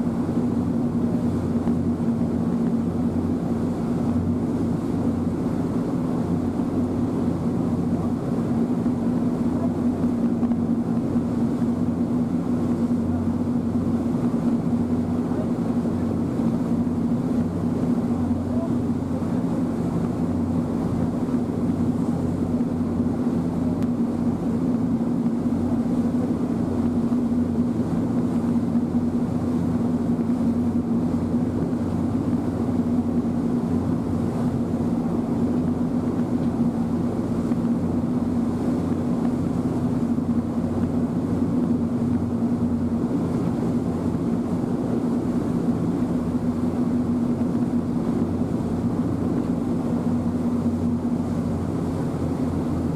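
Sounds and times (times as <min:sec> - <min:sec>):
ferry engine hum: 0:00.0 - 0:52.9.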